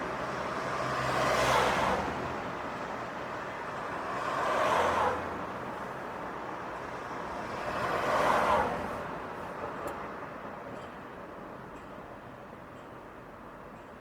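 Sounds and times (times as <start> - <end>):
steady traffic hum: 0.0 - 14.0.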